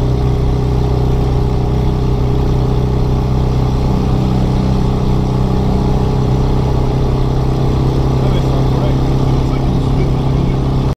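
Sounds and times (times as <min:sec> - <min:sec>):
small car engine exhaust drone: 0:00.0 - 0:10.9.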